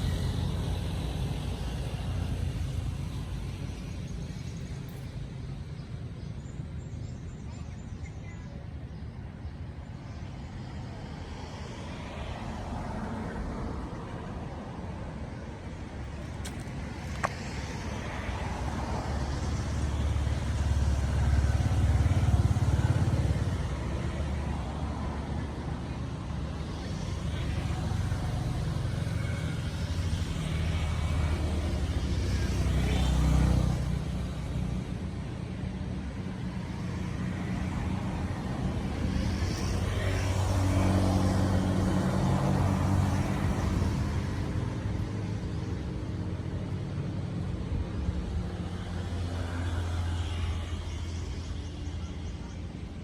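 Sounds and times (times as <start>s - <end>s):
vehicles passing on road: 0.0s - 53.0s.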